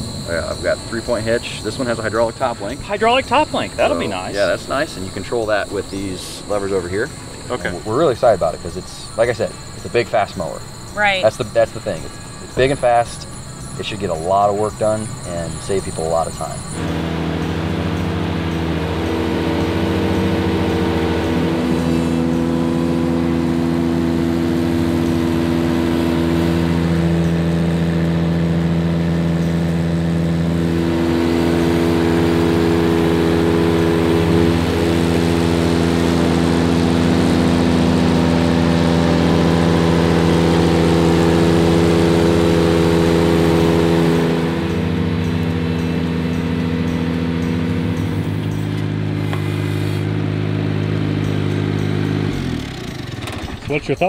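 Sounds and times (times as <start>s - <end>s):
tractor engine mowing: 0.0s - 54.0s.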